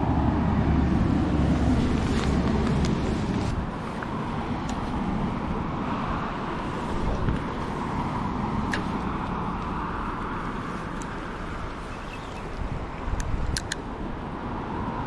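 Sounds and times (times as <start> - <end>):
river current rushing: 0.0 - 13.2.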